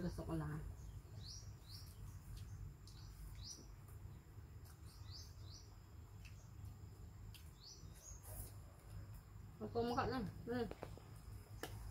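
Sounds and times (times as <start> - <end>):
faint bird chirping: 0.0 - 11.9
low steady hum: 0.0 - 11.9.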